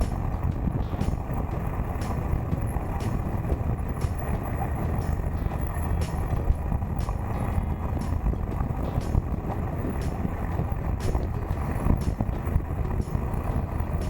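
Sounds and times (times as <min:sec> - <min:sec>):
motorcycle road and engine noise: 0:00.0 - 0:14.0
wind rushing over microphone: 0:00.0 - 0:14.0.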